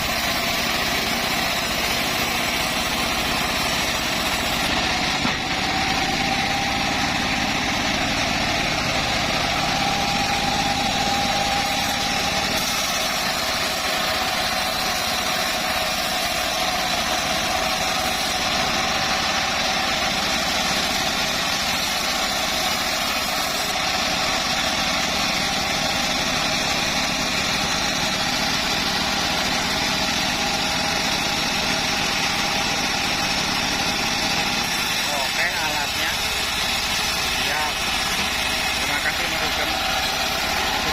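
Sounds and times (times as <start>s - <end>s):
bandsaw mill drone and whine: 0.0s - 40.9s.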